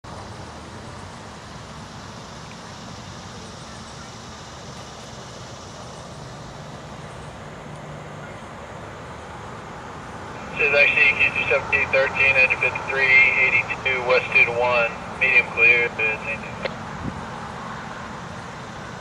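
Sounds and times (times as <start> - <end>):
outdoor background noise: 0.0 - 19.0
low engine hum: 0.1 - 19.0.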